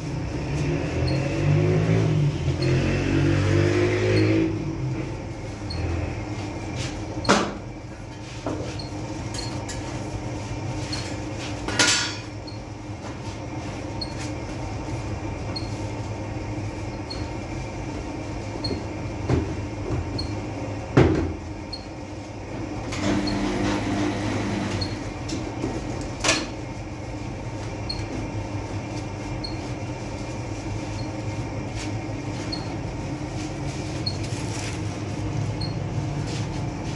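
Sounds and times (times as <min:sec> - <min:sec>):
bakery rumble: 0:00.0 - 0:36.9.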